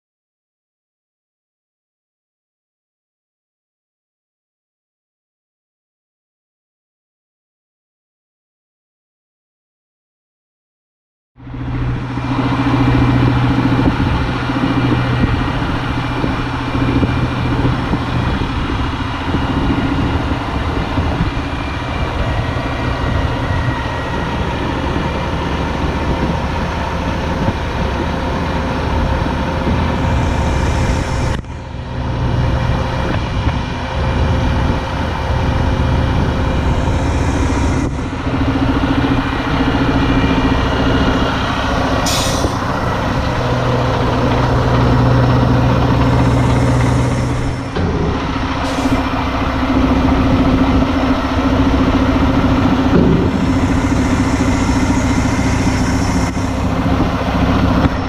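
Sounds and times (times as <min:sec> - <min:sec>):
dump truck diesel engine running: 0:11.4 - 0:58.0.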